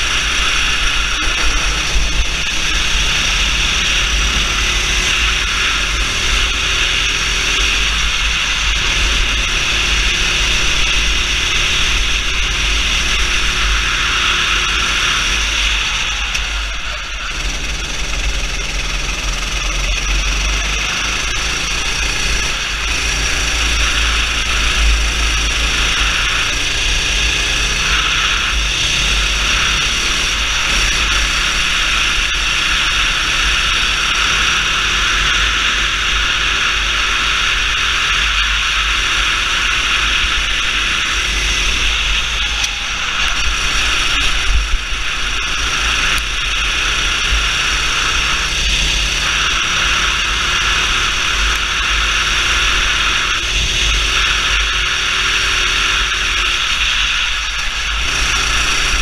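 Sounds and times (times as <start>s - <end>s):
go-kart engine at high revs: 0.0s - 59.0s
loud rattle: 0.0s - 59.0s.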